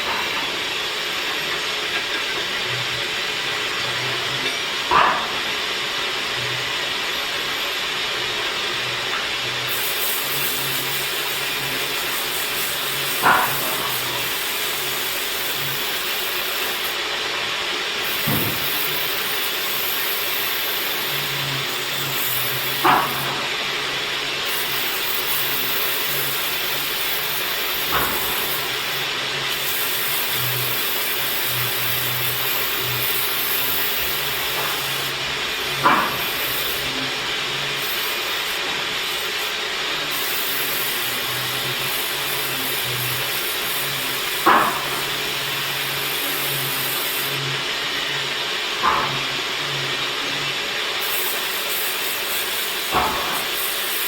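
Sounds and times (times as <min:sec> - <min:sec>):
woodworking machine hissing: 0:00.0 - 0:54.0.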